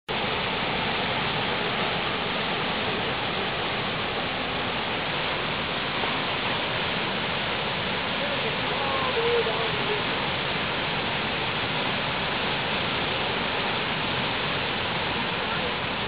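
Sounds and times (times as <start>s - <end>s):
water rushing over rocks: 0.1s - 16.0s.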